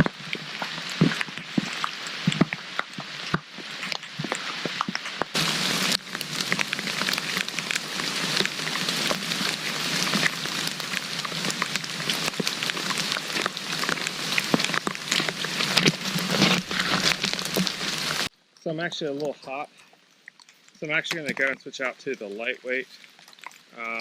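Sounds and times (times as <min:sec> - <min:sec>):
rain falling: 0:00.0 - 0:19.8, 0:20.4 - 0:24.0
raindrops ticking: 0:00.0 - 0:24.0.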